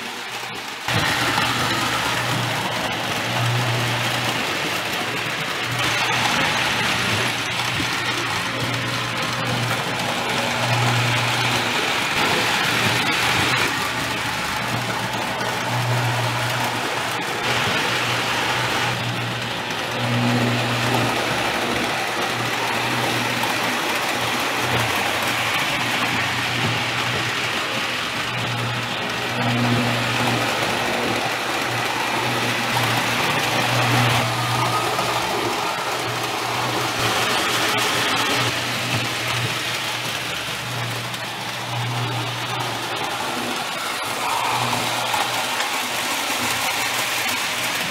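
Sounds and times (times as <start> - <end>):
electric motor hum: 0.0 - 47.9
toy train wheels on metal rails: 0.0 - 47.9.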